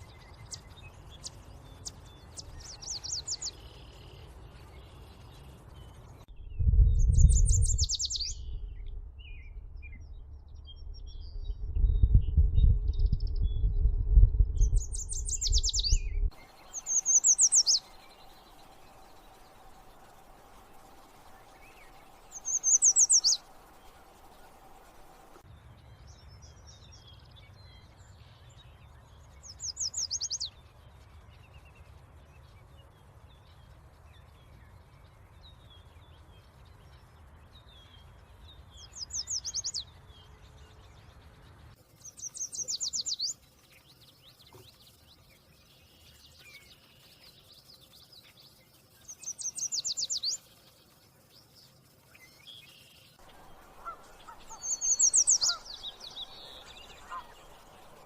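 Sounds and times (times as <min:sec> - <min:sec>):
warbler singing: 0:00.0 - 0:13.8, 0:14.6 - 0:58.0
faint bird chirps: 0:00.0 - 0:13.9, 0:14.6 - 0:58.0.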